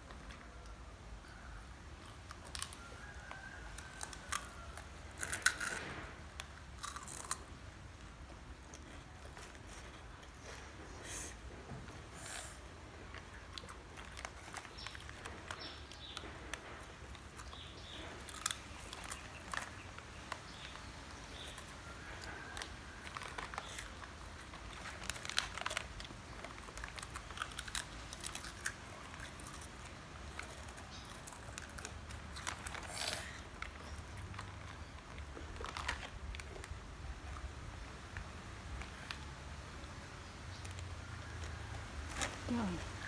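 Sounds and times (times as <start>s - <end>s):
crunchy snacks being chewed: 1.5s - 43.0s
snack wrapper crinkling: 2.1s - 10.7s, 12.2s - 39.3s.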